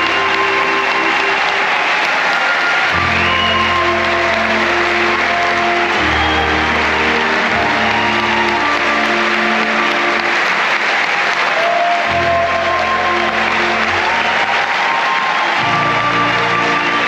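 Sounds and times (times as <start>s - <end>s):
audience applauding: 0.0s - 17.0s
music with long held chords: 0.0s - 17.0s.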